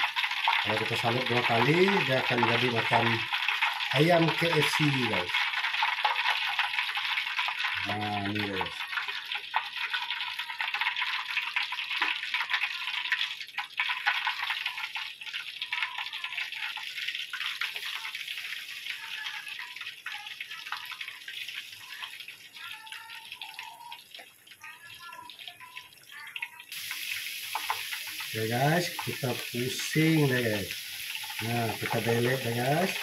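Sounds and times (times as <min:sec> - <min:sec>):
hot oil sizzling and crackling: 0:00.0 - 0:33.0.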